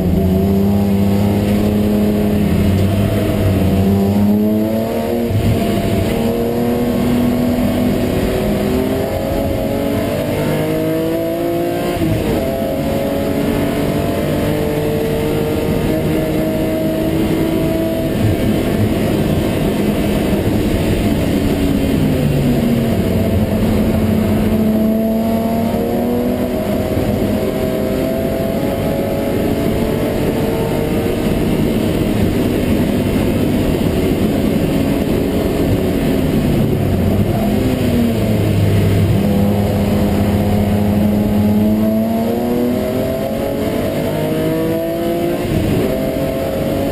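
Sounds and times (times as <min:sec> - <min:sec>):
race car engine revving: 0:00.0 - 0:46.9
road and wind noise: 0:00.0 - 0:46.9.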